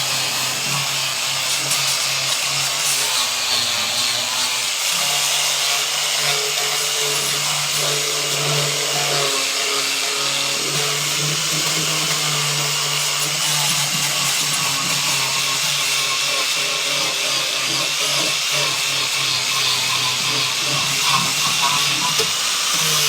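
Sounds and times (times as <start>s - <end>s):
power tool humming and hissing: 0.0s - 23.0s.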